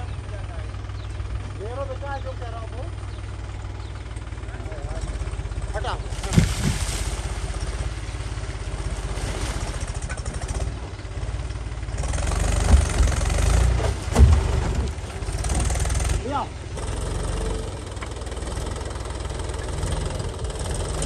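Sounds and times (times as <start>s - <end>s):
diesel tractor engine idling: 0.0s - 21.0s.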